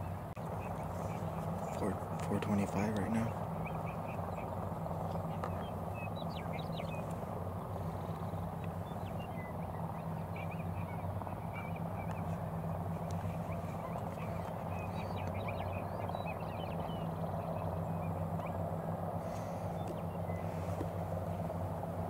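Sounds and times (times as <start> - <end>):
steady low hum: 0.0 - 22.0
bird chirps: 0.4 - 18.7, 19.3 - 21.5.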